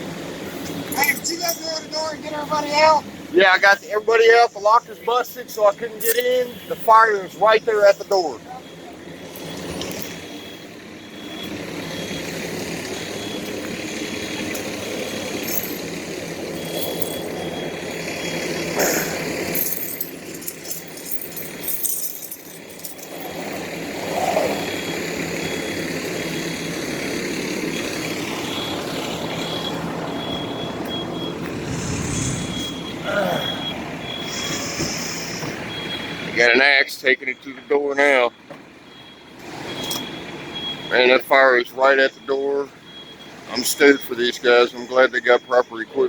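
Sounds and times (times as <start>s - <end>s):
fire truck engine running: 0.0s - 46.0s.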